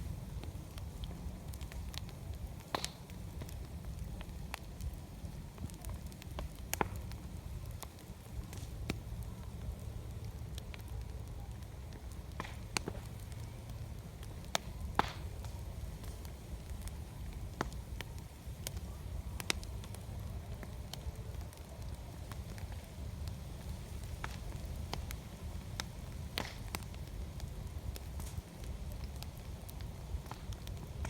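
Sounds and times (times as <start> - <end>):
campfire crackling: 0.0 - 31.0
fire popping: 0.0 - 31.0
low rumble of fire: 0.0 - 31.0.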